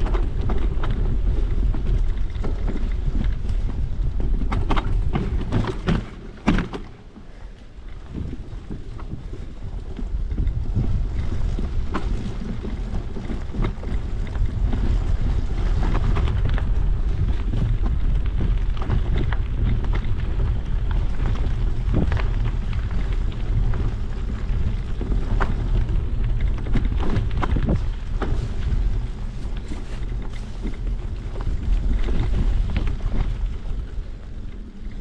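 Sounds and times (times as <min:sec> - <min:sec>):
bike rattles and knocks: 0:00.0 - 0:35.0
wind rumbling on microphone: 0:00.0 - 0:35.0.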